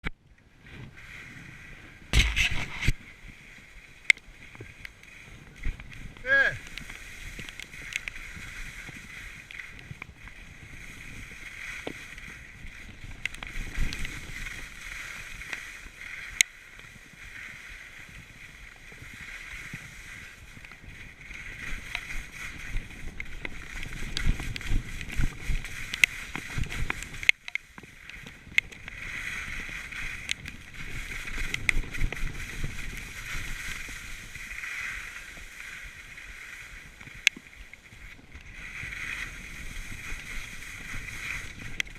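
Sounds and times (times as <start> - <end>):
skis scraping over hard snow: 0.5 - 41.9.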